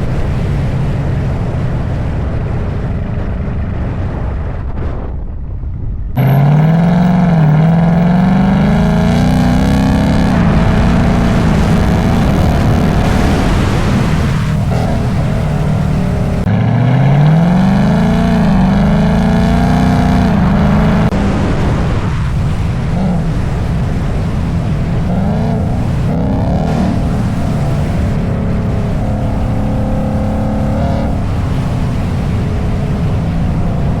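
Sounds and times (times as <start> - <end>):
car engine revving: 6.2 - 34.0.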